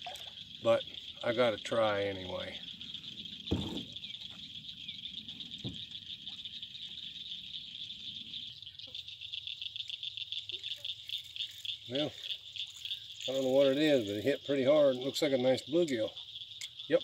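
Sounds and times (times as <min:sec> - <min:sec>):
insects shrilling: 0:00.0 - 0:17.0.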